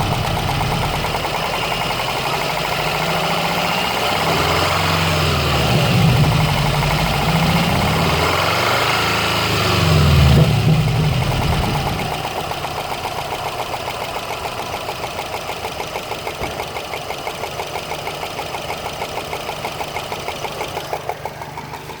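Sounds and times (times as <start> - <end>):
car engine rumbling and idling: 0.0 - 22.0
engine ticking: 0.0 - 22.0.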